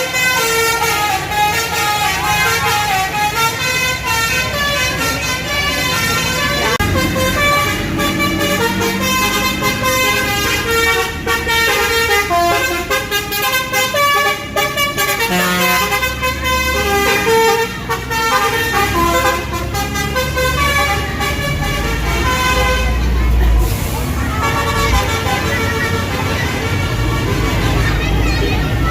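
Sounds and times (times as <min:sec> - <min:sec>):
multi-tone horn melody: 0:00.0 - 0:28.2.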